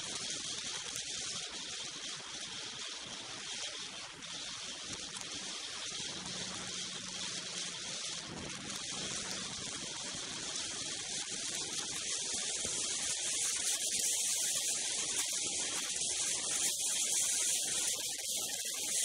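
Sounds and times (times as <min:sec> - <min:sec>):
rushing wind and snow hiss: 0:00.0 - 0:19.0.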